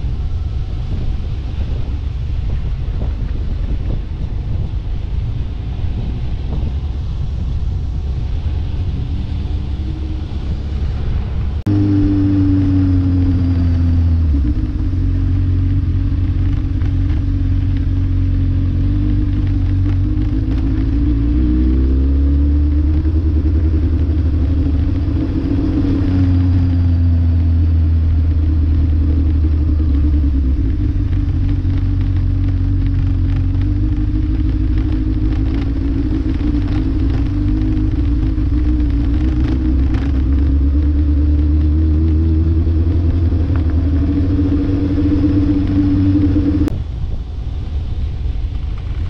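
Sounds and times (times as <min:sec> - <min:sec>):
low rumble: 0:00.0 - 0:49.0
vehicle engine running: 0:00.0 - 0:49.0.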